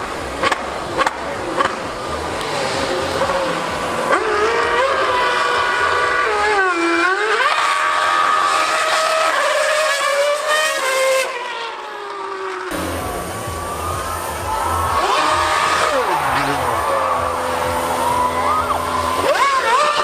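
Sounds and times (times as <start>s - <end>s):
racing car engine at high revs: 0.0s - 20.0s.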